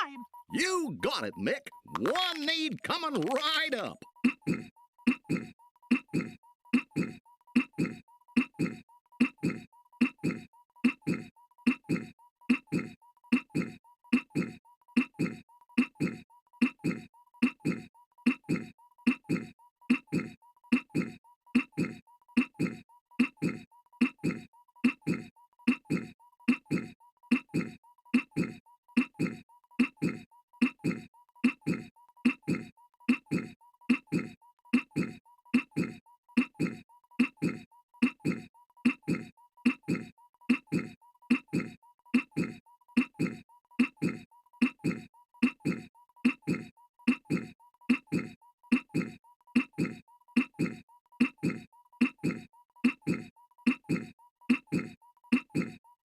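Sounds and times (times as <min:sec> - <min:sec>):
cartoon voice clearing throat: 0:00.0 - 0:00.7, 0:03.2 - 0:56.0.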